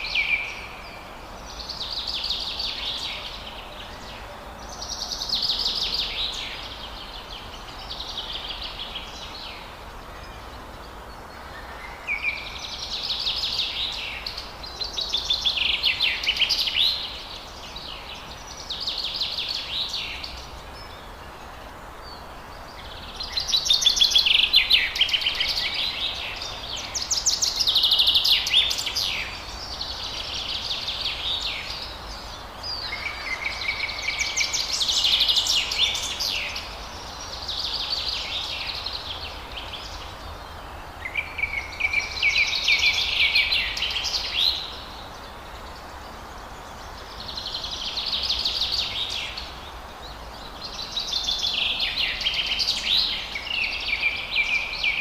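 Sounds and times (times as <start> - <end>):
forest birds singing: 0.0 - 55.0
steady low background noise: 0.0 - 55.0.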